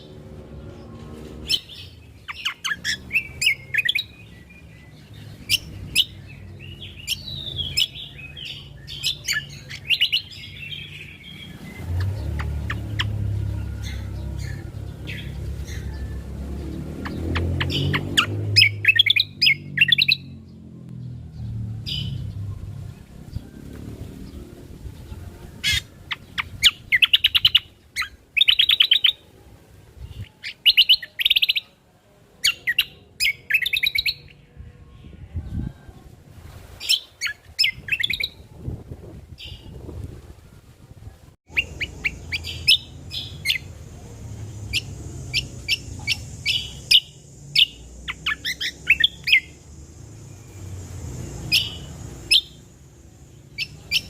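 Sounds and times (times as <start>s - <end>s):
songbird chirping trills: 0.0s - 36.1s, 41.5s - 54.0s.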